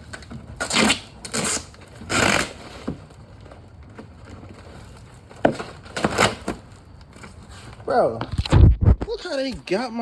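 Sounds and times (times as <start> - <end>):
packaging rustling and scraping: 0.0 - 9.5.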